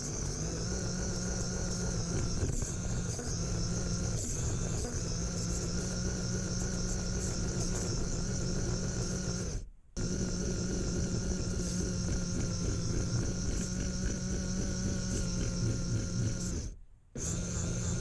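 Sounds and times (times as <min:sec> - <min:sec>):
small electric motor and gears whining: 0:00.0 - 0:18.0.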